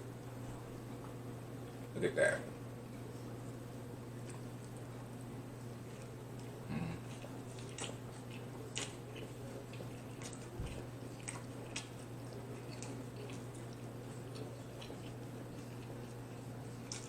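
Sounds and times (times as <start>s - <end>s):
steady low hum: 0.0s - 17.0s
person chewing food: 3.0s - 17.0s.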